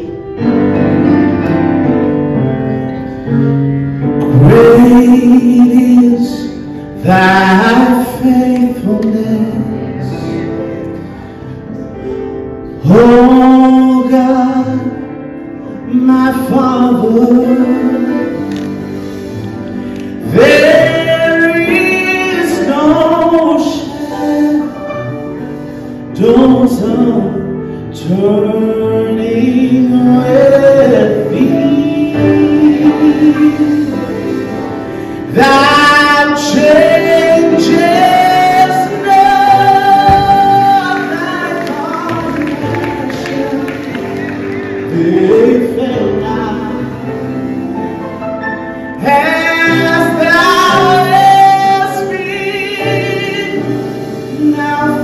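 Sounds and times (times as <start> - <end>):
instrumental backing: 0.0 - 55.0
man singing gospel into microphone: 4.2 - 10.7, 12.7 - 19.3, 19.9 - 25.2, 25.8 - 47.4, 49.0 - 55.0.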